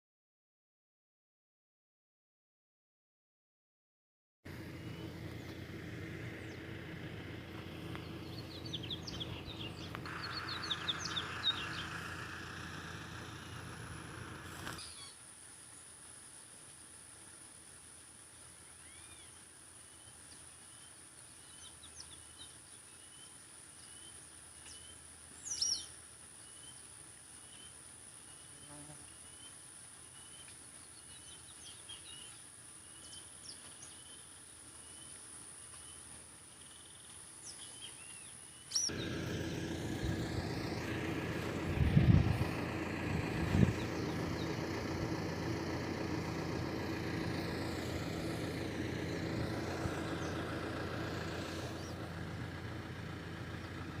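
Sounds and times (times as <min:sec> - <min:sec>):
engine-like hum: 0:04.5 - 0:54.0.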